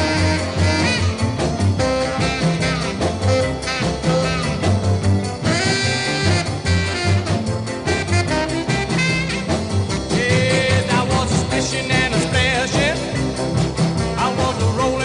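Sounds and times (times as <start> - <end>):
bass and drum beat: 0.0 - 15.0
saxophone-led horn line: 0.0 - 15.0.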